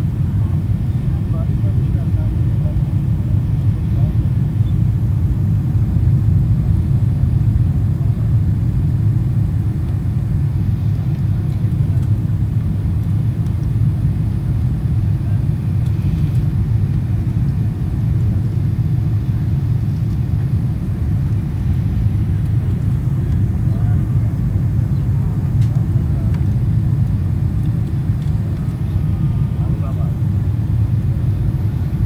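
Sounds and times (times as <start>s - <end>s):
airliner engine rumble in cabin: 0.0s - 32.0s.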